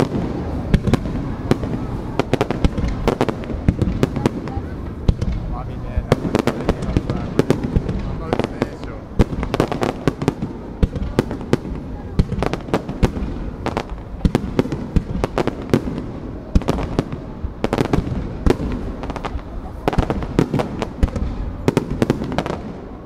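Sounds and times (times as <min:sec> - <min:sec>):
firework shells bursting: 0:00.0 - 0:22.9
continuous low rumble: 0:00.0 - 0:23.0.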